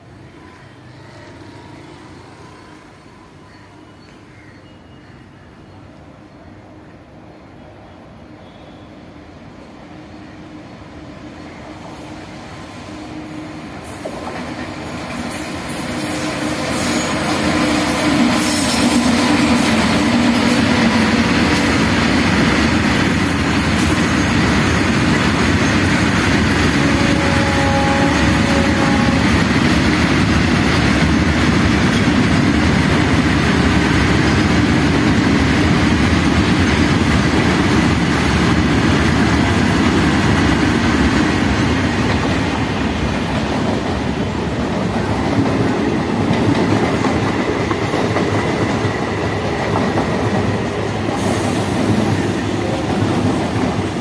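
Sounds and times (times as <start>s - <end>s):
faint locomotive hum: 0.0s - 54.0s
freight train rumbling past: 5.8s - 54.0s.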